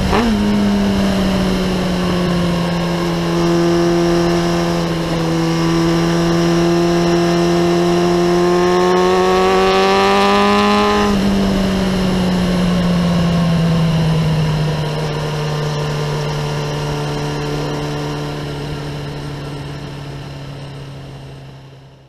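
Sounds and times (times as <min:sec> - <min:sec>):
motorcycle engine decelerating: 0:00.0 - 0:22.0.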